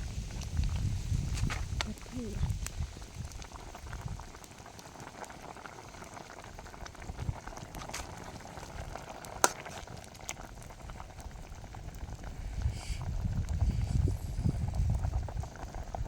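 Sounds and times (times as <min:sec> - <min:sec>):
pot of food boiling: 0:00.0 - 0:16.0.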